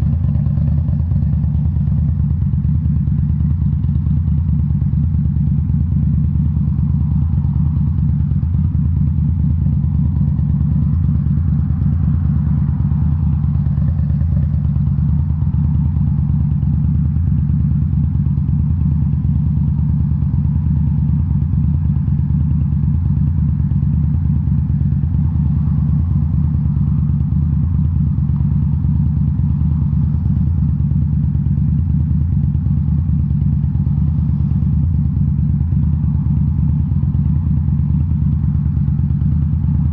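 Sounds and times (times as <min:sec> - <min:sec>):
motorcycle engine deep exhaust note: 0:00.0 - 0:39.9.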